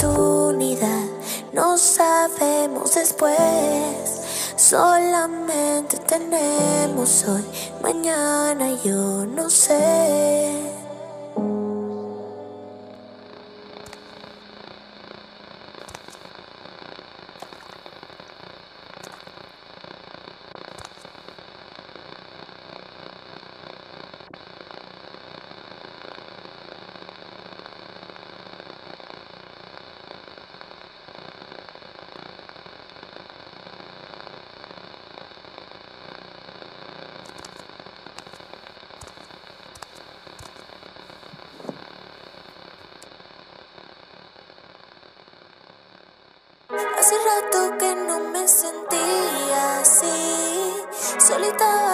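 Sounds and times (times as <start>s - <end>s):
static hiss and crackle: 0.0s - 51.9s.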